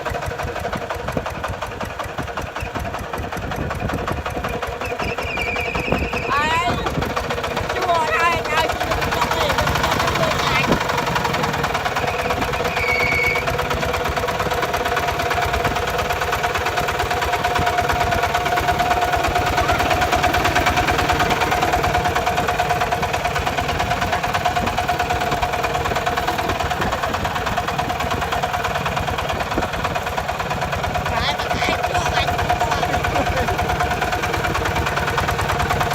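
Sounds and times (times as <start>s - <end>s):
diesel engine knocking: 0.0s - 35.9s
steady engine whine: 0.0s - 35.9s.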